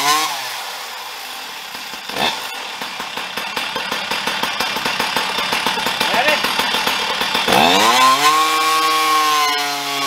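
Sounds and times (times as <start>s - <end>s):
chainsaw running: 0.0s - 10.0s
chainsaw throttle blip: 0.0s - 10.0s.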